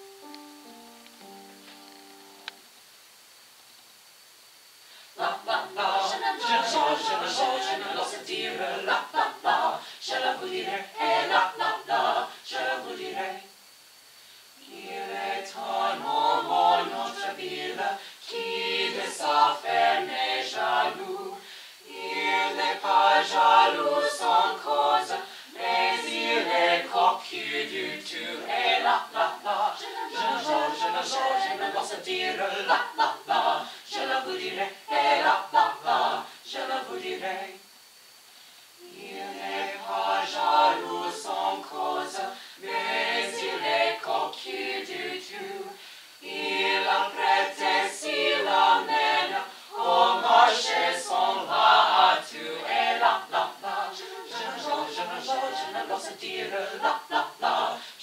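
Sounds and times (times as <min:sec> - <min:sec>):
a cappella vocal ensemble singing: 0:05.0 - 0:13.8, 0:14.4 - 0:58.0.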